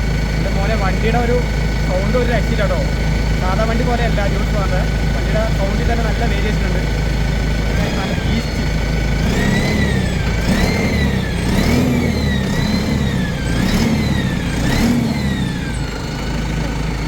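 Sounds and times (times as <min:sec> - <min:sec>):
diesel tractor engine revving: 0:00.0 - 0:17.0.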